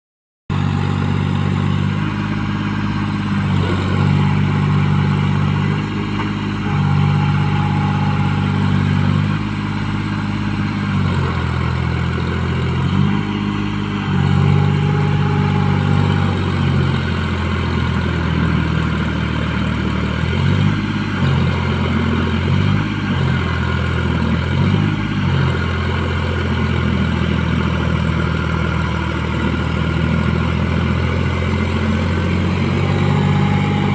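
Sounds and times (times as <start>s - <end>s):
tractor diesel engine under load: 0.5s - 33.9s.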